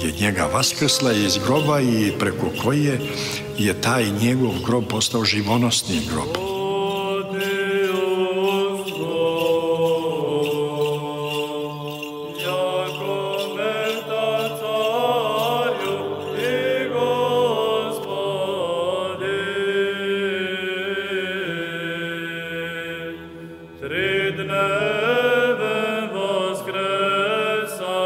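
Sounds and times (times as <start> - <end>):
voices singing chant: 0.0 - 28.0.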